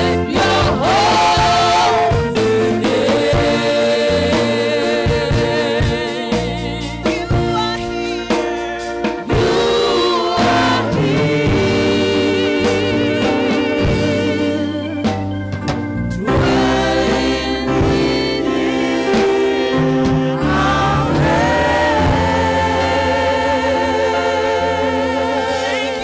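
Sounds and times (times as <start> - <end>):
voices singing with vibrato: 0.0 - 15.1, 16.2 - 26.0
drum hits: 0.0 - 24.6
backing band: 0.0 - 26.0.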